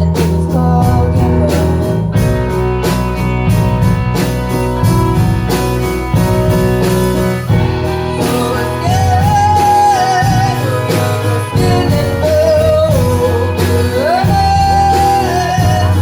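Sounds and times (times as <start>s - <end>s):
bass: 0.0s - 16.0s
drums: 0.0s - 16.0s
guitar: 0.0s - 16.0s.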